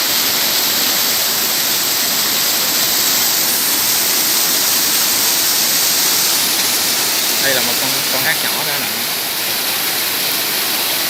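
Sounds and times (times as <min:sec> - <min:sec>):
waterfall over rocks: 0:00.0 - 0:11.0.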